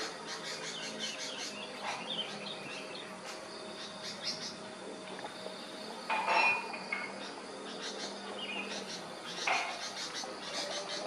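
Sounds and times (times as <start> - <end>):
birds chirping and calling: 0.0 - 4.7, 5.8 - 11.0
insect trill: 0.0 - 11.0.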